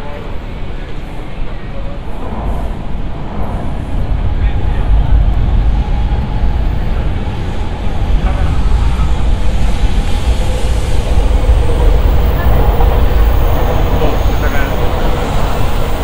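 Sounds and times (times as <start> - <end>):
street traffic noise: 0.0 - 16.0
train rumbling on elevated railway: 0.0 - 16.0.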